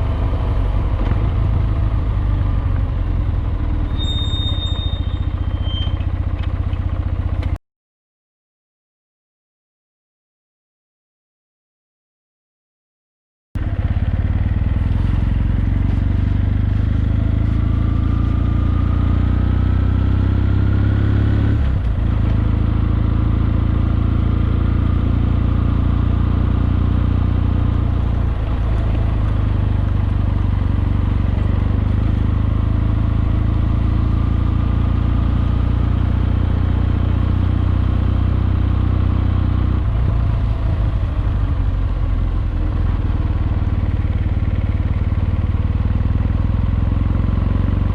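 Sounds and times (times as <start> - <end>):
motorcycle engine running: 0.0 - 7.6, 13.6 - 47.9.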